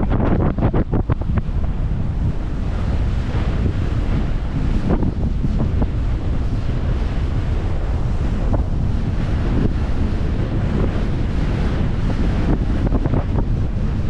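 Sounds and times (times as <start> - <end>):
low rumble of boat and water: 0.0 - 14.0
wind buffeting microphone: 0.0 - 14.0.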